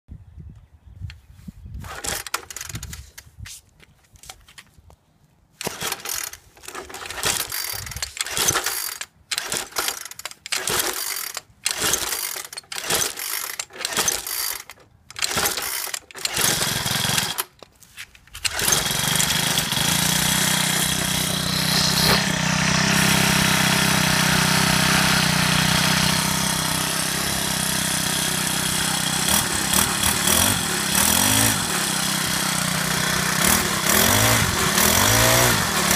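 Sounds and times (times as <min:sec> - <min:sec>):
recoil starter pulls: 0:01.8 - 0:03.2, 0:05.6 - 0:17.6, 0:18.3 - 0:35.9
small engine running: 0:05.6 - 0:17.5, 0:18.4 - 0:35.9.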